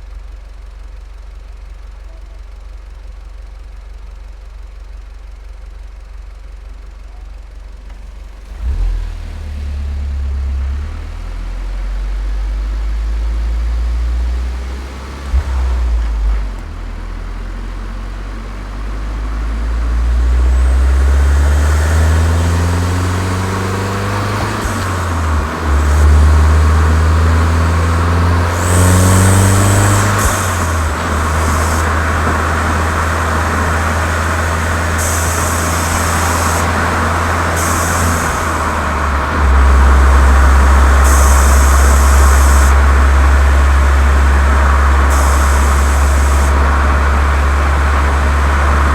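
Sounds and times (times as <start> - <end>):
car engine idling and accelerating: 0.0 - 48.9.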